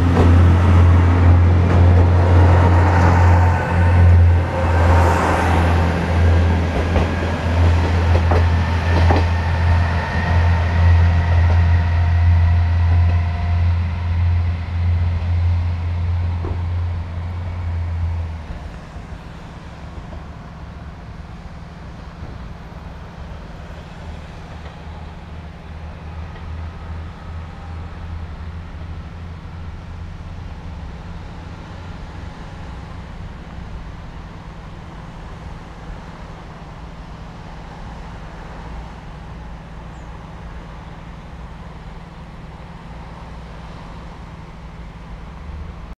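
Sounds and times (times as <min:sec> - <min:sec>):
outdoor background noise: 0:00.0 - 0:46.0.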